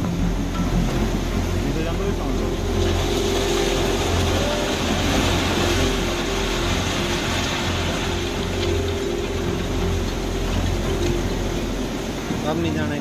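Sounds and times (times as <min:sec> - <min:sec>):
rushing floodwater: 0:00.0 - 0:13.0.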